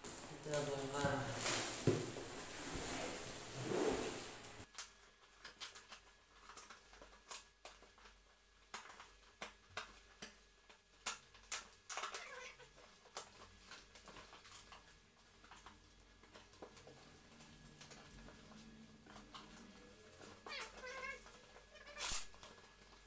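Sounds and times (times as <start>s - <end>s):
packing tape and cardboard crackling: 0.0s - 23.0s.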